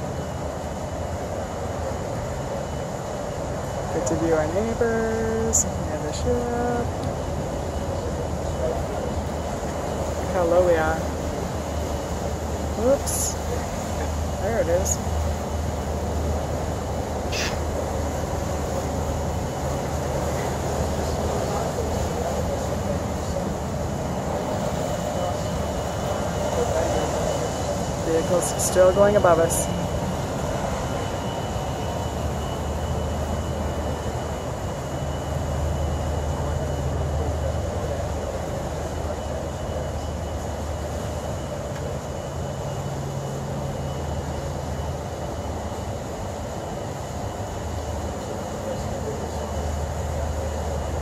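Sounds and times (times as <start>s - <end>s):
faint high whine: 0.0s - 51.0s
ship engines droning: 0.0s - 51.0s.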